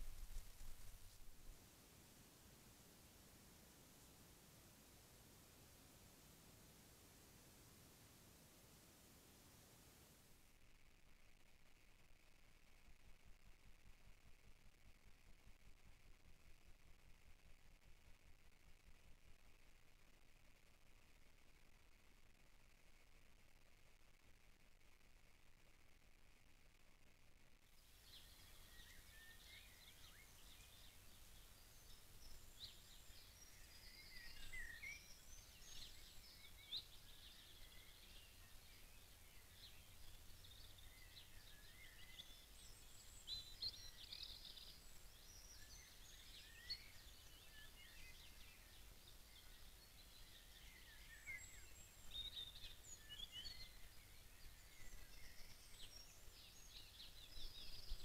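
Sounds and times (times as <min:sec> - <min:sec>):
faint songbirds singing: 0:11.4 - 0:58.0.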